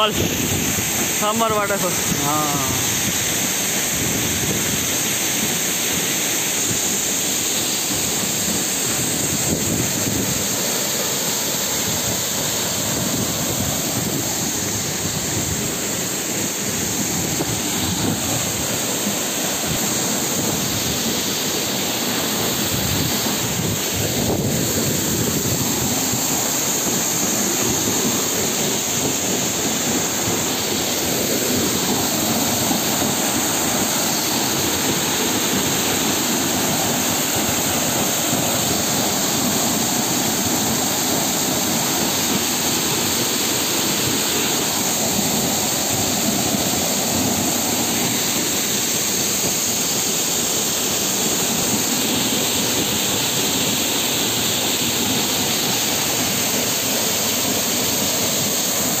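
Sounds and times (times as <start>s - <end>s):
stream running over stones: 0.0s - 59.0s
waterfall rushing into pool: 0.0s - 59.0s.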